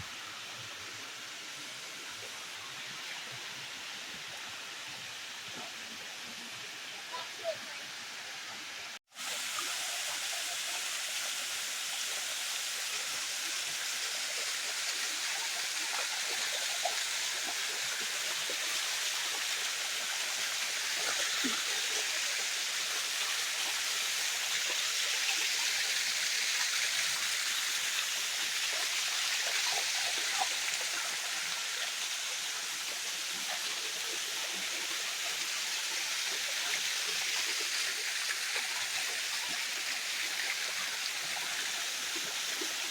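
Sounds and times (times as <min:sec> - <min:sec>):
rushing waterfall water: 0:00.0 - 0:42.9.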